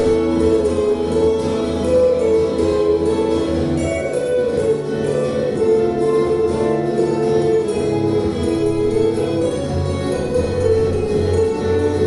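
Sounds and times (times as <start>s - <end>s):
acoustic guitar duet: 0.0s - 12.0s.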